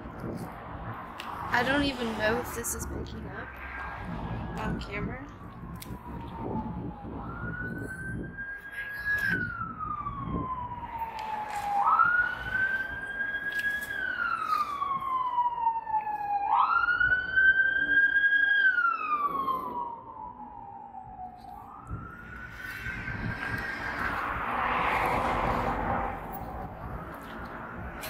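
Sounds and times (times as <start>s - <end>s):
emergency siren wailing: 0.0s - 28.0s.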